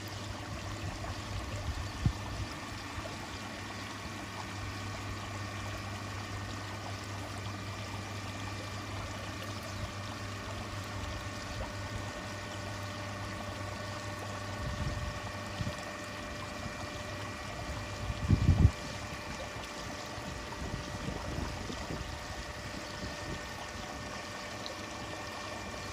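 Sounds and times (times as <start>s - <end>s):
running water: 0.0s - 25.9s.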